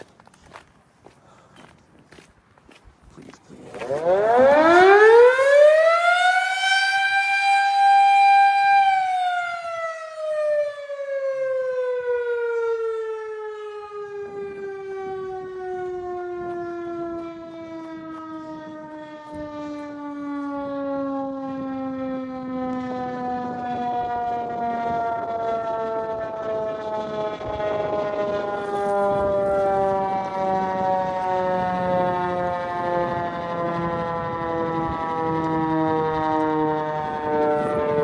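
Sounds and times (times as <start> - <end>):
mechanical fire siren wailing: 3.7 - 38.0.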